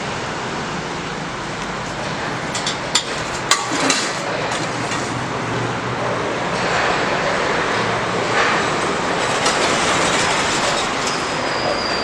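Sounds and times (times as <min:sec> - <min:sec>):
roadside traffic noise: 0:00.0 - 0:12.0.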